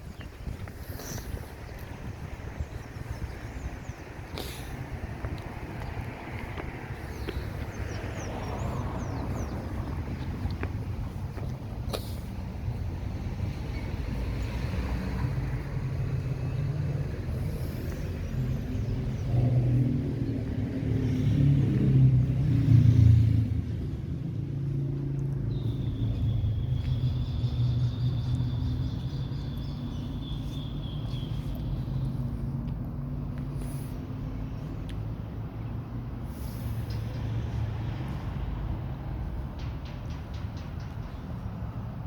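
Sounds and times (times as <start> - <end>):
car engines and tyres rumbling: 0.0 - 42.0
vehicle passing: 0.4 - 42.0.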